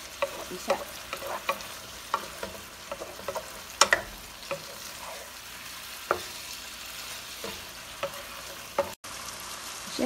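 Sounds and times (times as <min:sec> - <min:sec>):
spatula scraping and knocking pan: 0:00.0 - 0:09.0
meat sizzling in a frying pan: 0:00.0 - 0:10.0.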